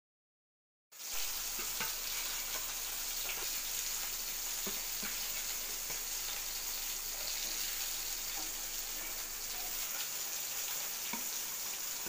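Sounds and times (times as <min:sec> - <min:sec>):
fish sizzling in oil: 0:00.9 - 0:12.0.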